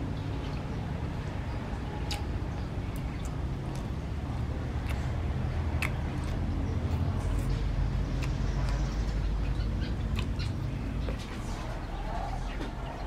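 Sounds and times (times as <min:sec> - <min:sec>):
crunchy chewing: 0:02.0 - 0:13.0.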